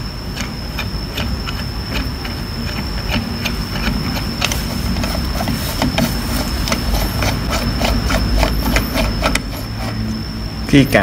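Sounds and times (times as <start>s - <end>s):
high whine: 0.0s - 11.0s
low hum: 0.0s - 11.0s.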